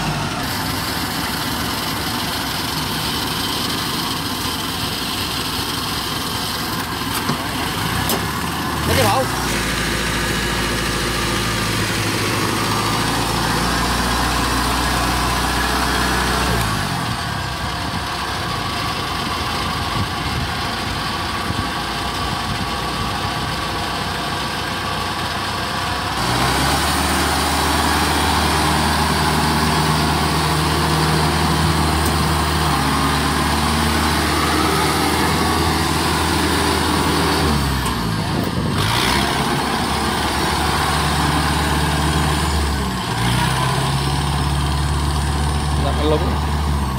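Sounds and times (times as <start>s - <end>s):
combine harvester engine running: 0.0s - 46.9s.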